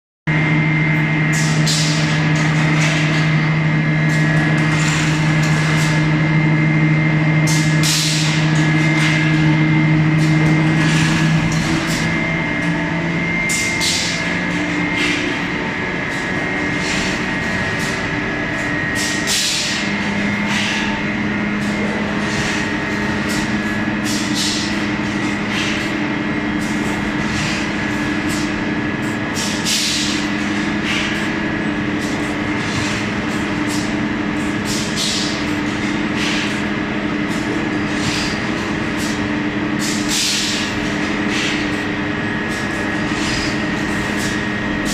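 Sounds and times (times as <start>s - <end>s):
machinery humming: 0.3s - 44.9s.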